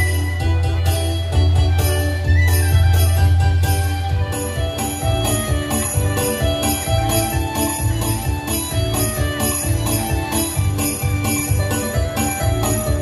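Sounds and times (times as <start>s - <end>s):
jingling percussion: 0.0s - 13.0s
pulsing bass: 0.0s - 13.0s
sustained melody: 0.0s - 13.0s.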